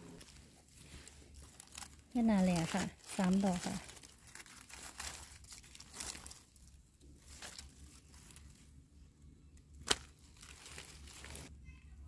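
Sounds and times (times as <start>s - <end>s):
dry leaves rustling and crackling: 0.1s - 9.0s, 9.7s - 11.5s.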